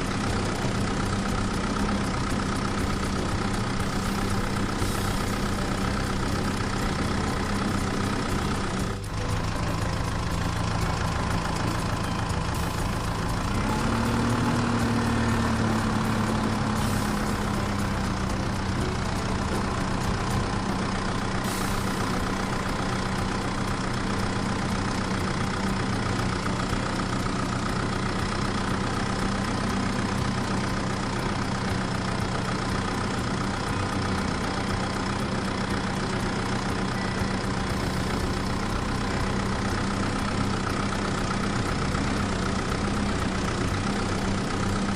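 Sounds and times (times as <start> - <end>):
engine idling and revving: 0.0 - 44.9.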